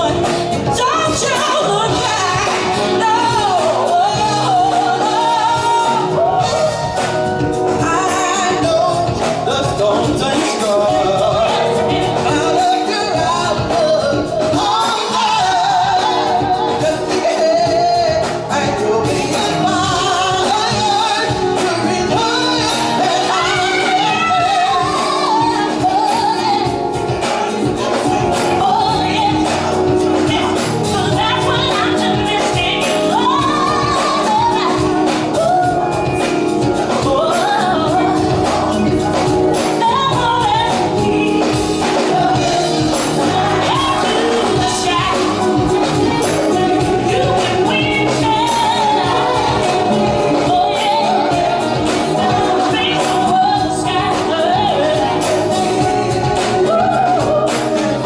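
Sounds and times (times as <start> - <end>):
gospel choir singing with band: 0.0 - 58.0.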